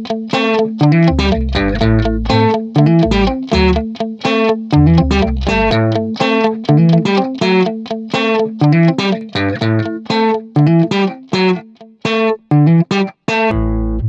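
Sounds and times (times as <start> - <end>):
plucked melody with bass line: 0.3 - 11.6, 12.4 - 14.0.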